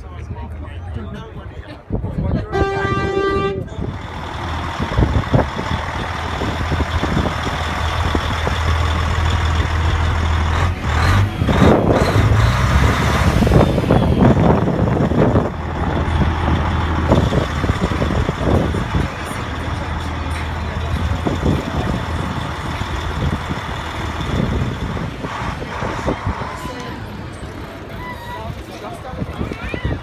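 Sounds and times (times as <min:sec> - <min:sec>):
outdoor background noise: 0:00.0 - 0:30.0
diesel truck engine idling: 0:02.3 - 0:28.6.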